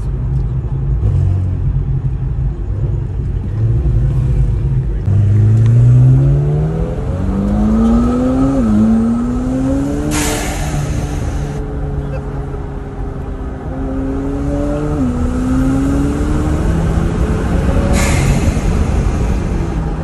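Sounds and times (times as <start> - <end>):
car engine revving in cabin: 0.6 - 20.0.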